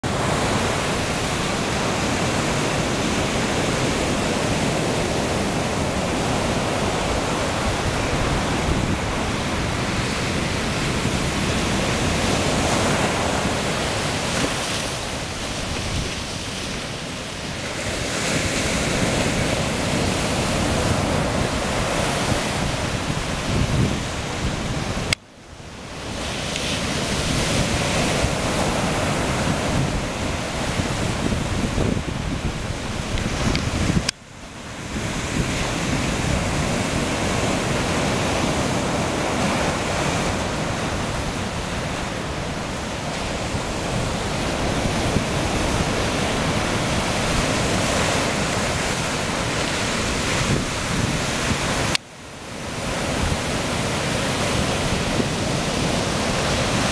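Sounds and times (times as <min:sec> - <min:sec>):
waves breaking on rocks: 0:00.0 - 0:25.2, 0:25.8 - 0:56.9
wind on microphone: 0:00.0 - 0:56.9.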